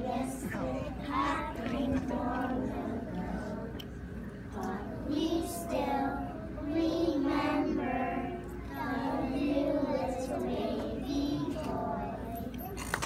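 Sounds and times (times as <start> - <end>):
children singing in unison: 0.0 - 3.8, 4.5 - 12.6.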